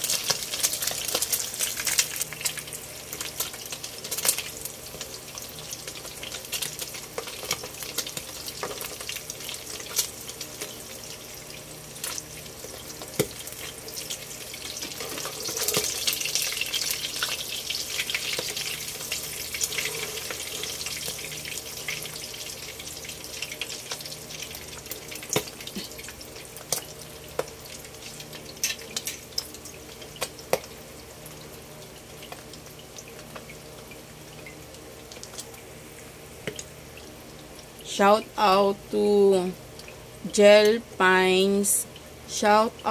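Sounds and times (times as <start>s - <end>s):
patties sizzling in oil: 0.0s - 42.9s.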